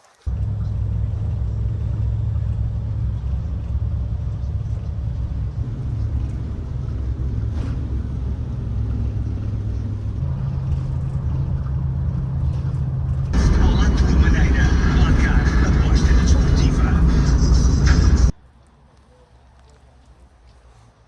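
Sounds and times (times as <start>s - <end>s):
vehicle engine running: 0.3s - 18.3s.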